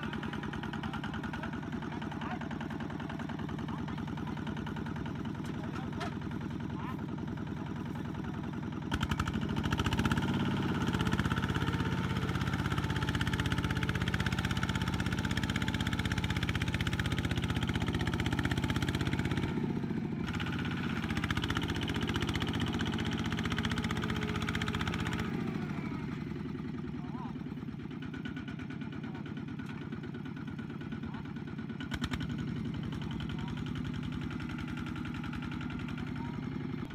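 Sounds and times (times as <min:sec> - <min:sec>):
diesel tractor engine under load: 0:00.0 - 0:36.9.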